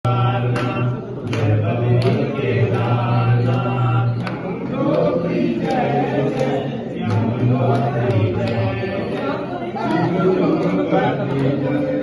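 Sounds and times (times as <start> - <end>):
group singing a devotional chant: 0.0 - 12.0.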